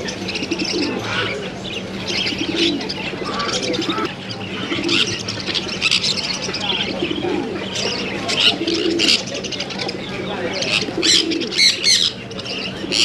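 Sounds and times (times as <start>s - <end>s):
birds chirping and twittering: 0.0s - 13.0s
doves cooing: 0.0s - 13.0s
steady low hum: 0.0s - 13.0s.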